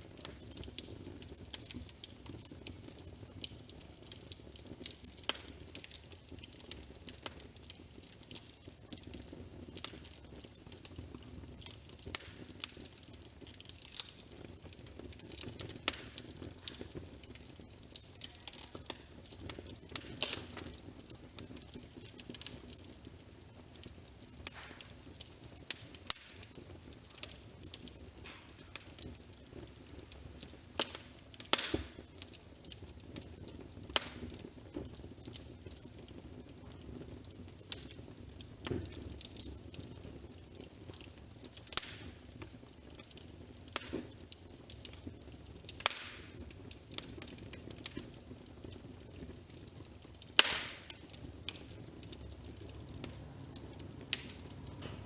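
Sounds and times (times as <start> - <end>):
fire crackling and popping: 0.0 - 55.0
low steady hiss: 0.0 - 55.0.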